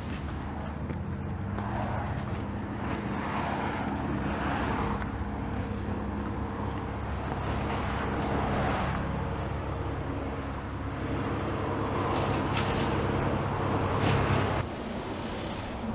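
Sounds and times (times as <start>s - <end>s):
cars passing: 0.0s - 15.9s
low engine hum: 0.0s - 15.9s.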